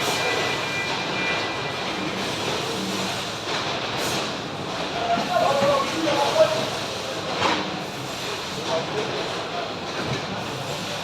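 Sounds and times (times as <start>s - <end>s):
factory machinery roar: 0.0s - 11.0s.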